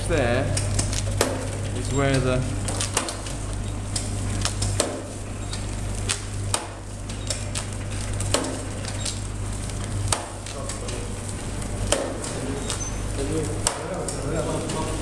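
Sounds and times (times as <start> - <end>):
machine motor hum: 0.0 - 15.0.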